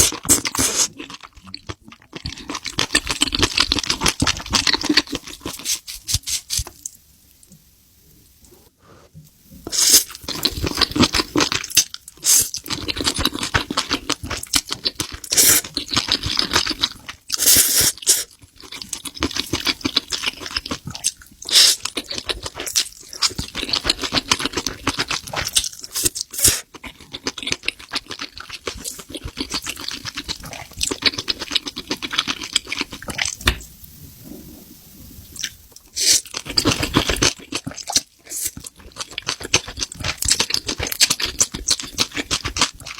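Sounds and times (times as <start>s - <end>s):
chewing with wet smacking: 0.0s - 6.9s, 10.2s - 33.6s, 35.4s - 42.9s.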